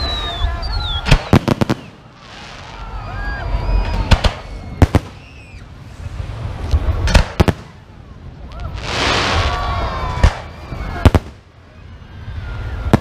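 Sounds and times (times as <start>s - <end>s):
dense firework hiss: 0.0s - 11.6s.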